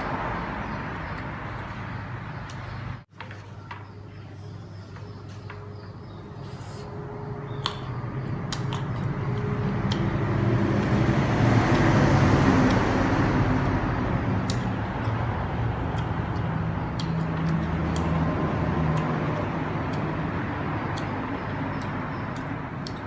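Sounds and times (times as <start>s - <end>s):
vehicle engine passing: 0.0s - 3.0s, 6.2s - 23.0s.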